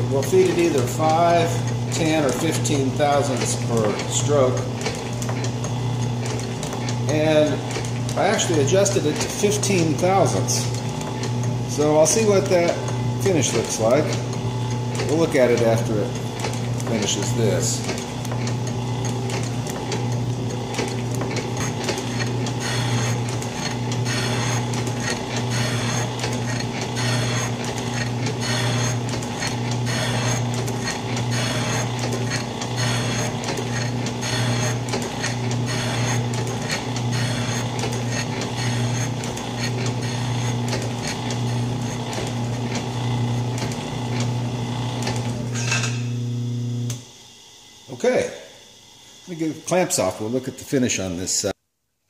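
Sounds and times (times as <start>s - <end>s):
metal shaper motor hum: 0.0s - 49.6s.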